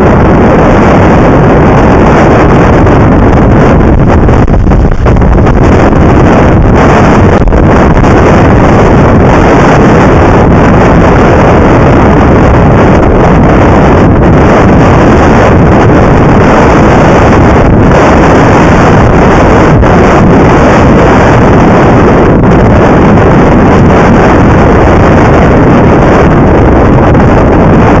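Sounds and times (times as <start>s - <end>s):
water rushing past a hull: 0.0s - 28.0s
wind buffeting the microphone: 0.0s - 28.0s.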